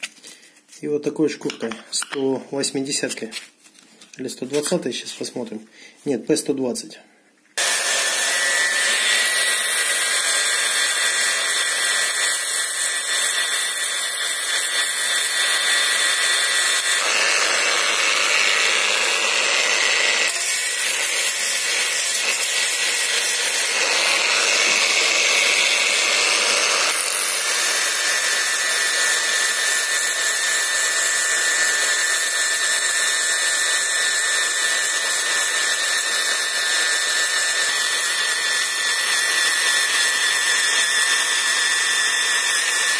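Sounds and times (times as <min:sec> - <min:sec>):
angle grinder sanding metal: 0:07.6 - 0:42.9.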